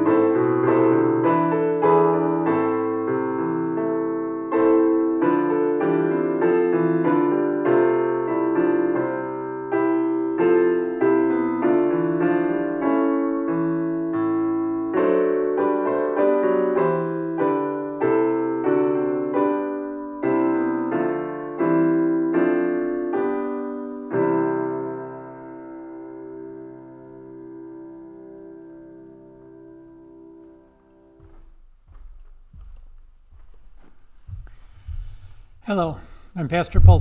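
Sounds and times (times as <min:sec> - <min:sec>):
slow solo piano chords: 0:00.0 - 0:33.0.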